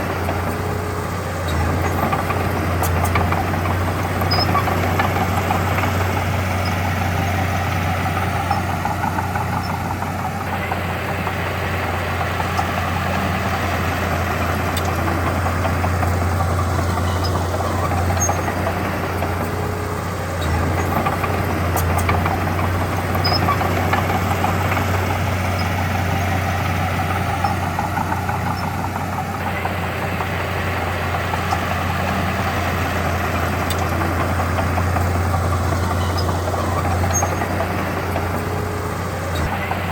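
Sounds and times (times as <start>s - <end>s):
heavy diesel engine humming: 0.0s - 39.9s.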